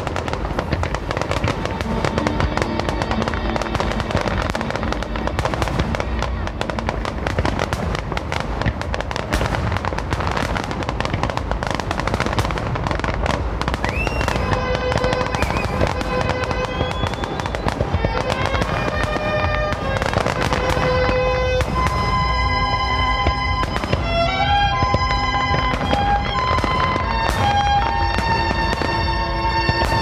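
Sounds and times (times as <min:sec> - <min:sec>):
fireworks crackling and popping: 0:00.0 - 0:30.0
music with long held notes: 0:00.0 - 0:30.0.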